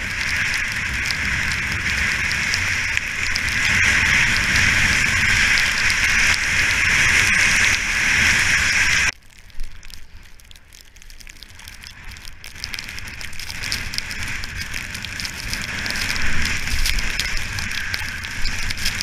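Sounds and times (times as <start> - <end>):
skis hissing over powder snow: 0.0 - 9.2, 12.7 - 19.0
faint snow crackle: 0.0 - 19.0
wind rushing over camera: 0.0 - 19.0.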